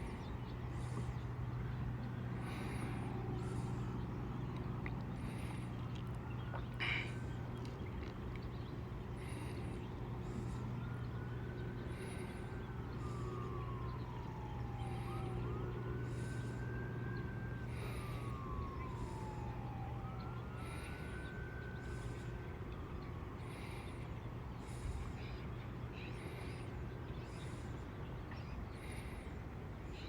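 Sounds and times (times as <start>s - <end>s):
distant siren wailing: 0.0s - 30.0s
low hum: 0.0s - 30.0s.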